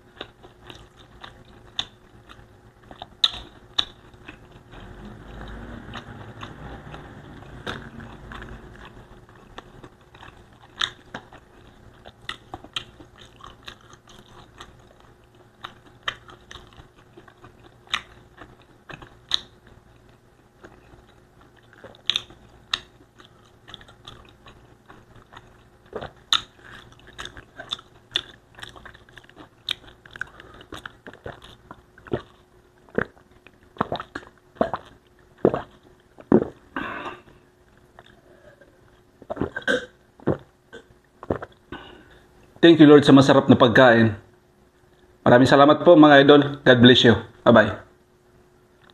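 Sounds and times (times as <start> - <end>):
close chewing with mouth clicks: 0.0 - 41.8.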